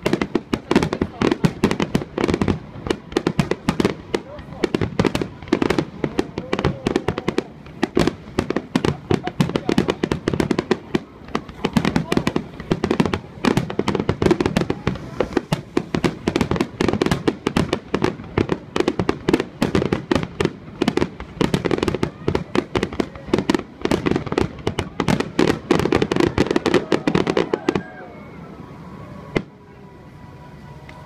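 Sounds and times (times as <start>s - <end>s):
faint voices: 0.0s - 31.0s.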